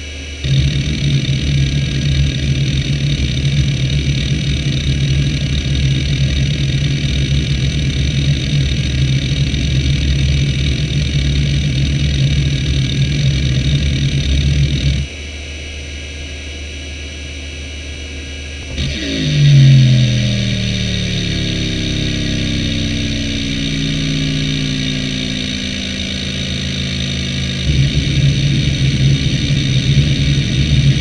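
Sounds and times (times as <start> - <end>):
hard drive heads buzzing: 0.0 - 15.4, 17.8 - 31.0
hard drive spindle hum: 0.0 - 31.0
hard drive seeking clatter: 0.4 - 15.2, 18.6 - 31.0.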